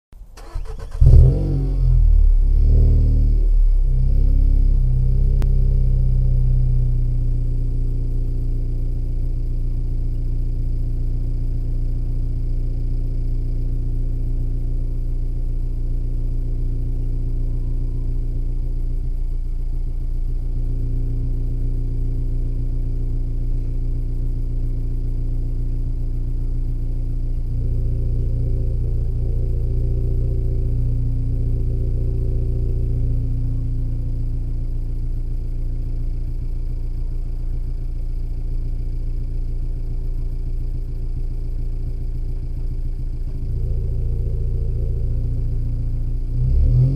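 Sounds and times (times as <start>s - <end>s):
car engine idling: 0.2s - 46.9s.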